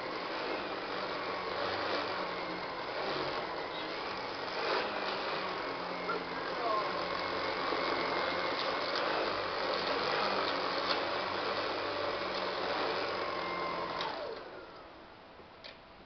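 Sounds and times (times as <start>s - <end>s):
vacuum motor winding down: 0.0s - 15.0s
vacuum cleaner running: 0.0s - 15.1s.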